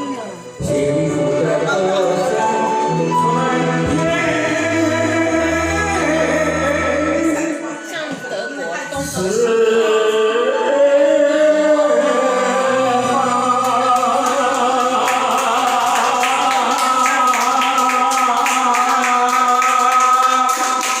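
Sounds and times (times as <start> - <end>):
karaoke backing track: 0.0 - 21.0.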